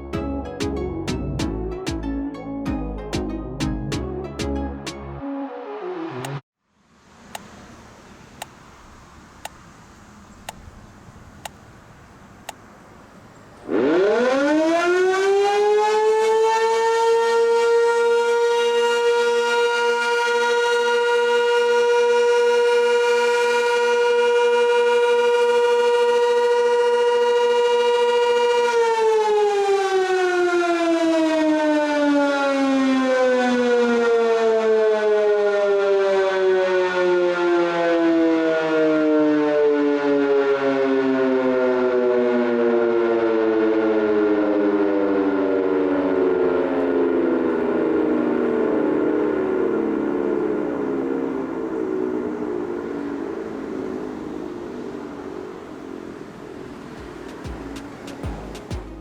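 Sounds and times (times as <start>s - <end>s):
outdoor warning siren: 11.2s - 59.0s.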